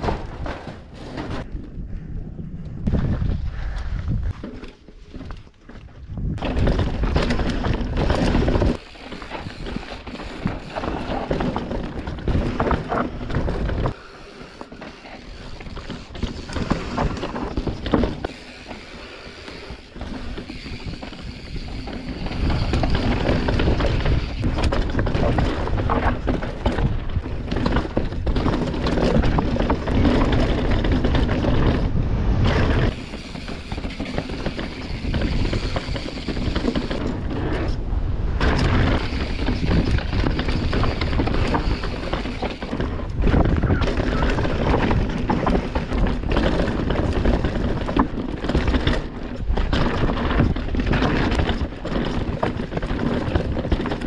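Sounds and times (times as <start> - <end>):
bike rattling over bumps: 0.0 - 1.8, 2.8 - 54.0
bike tyres on dirt: 0.0 - 54.0
wind rumble on microphone: 1.2 - 4.5, 5.2 - 14.0, 19.8 - 54.0.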